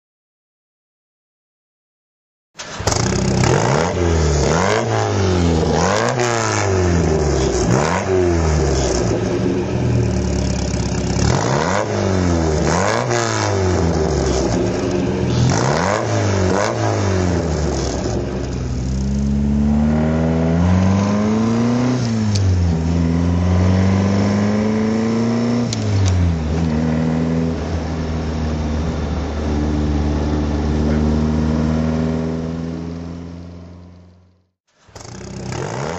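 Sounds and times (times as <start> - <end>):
car engine revving and idling: 2.6 - 35.9.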